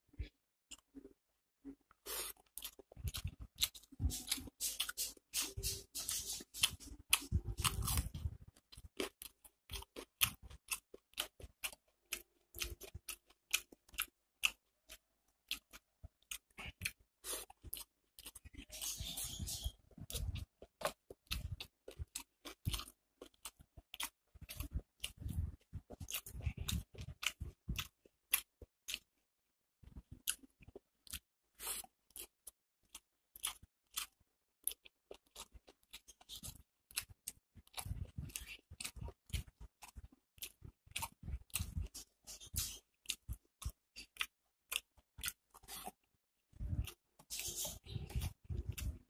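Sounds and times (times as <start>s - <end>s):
chewing and crunching food: 0.0s - 49.0s.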